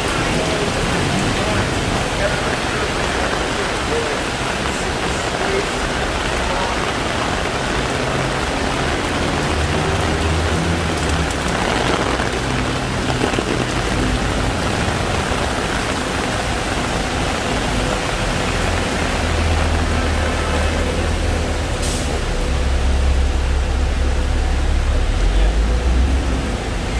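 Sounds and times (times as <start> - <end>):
heavy rain pouring: 0.0 - 26.9
vehicle engine hum: 0.0 - 26.9.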